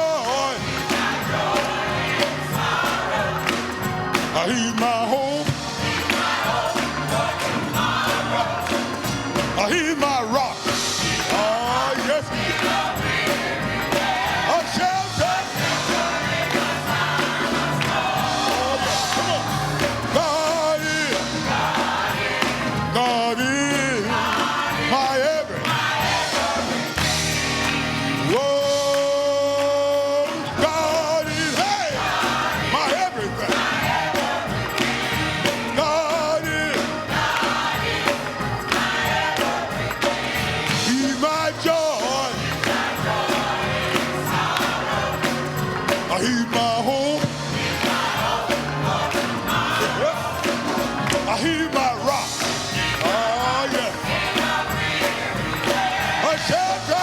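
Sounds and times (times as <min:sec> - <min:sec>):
gospel church band with choir: 0:00.0 - 0:57.0.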